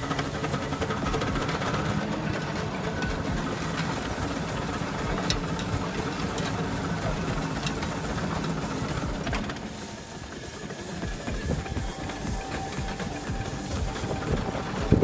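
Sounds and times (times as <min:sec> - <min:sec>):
old engine chugging: 0:00.0 - 0:10.0, 0:11.0 - 0:15.0.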